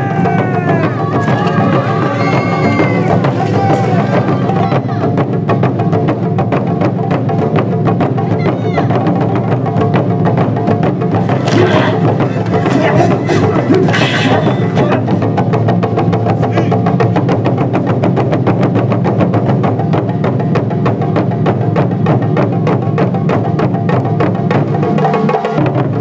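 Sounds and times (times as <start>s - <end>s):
fast percussion strikes: 0.0s - 26.0s.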